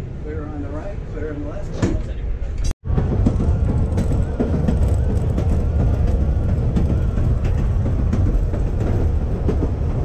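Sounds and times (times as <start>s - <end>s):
streetcar wheels rumbling on rail: 1.8s - 10.0s.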